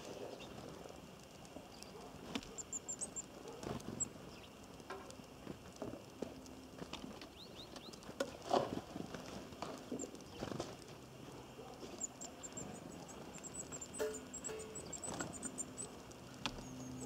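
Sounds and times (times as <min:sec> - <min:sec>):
birds tapping and knocking: 0:02.2 - 0:17.0.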